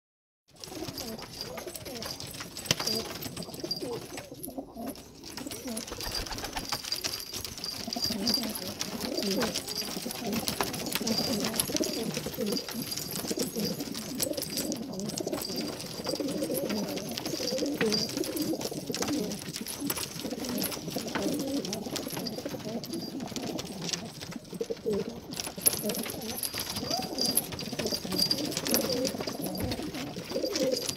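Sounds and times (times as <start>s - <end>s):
pigeons cooing: 0.6s - 30.9s.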